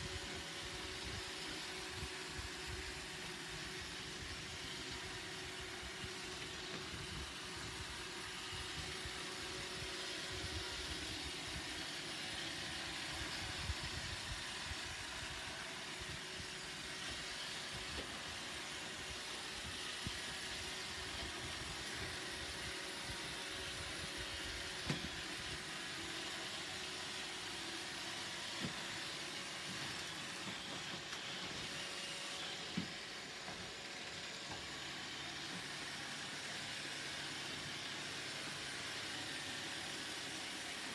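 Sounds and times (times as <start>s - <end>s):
robot vacuum whirring: 0.0s - 40.9s.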